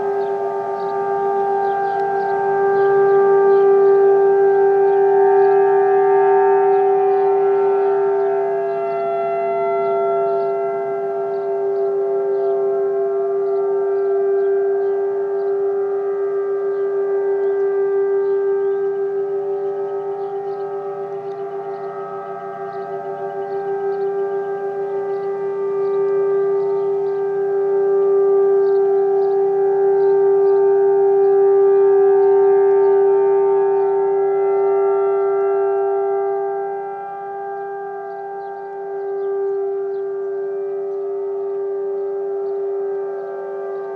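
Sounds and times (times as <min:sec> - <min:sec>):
rotating warning sirens steady tone: 0:00.0 - 0:43.9.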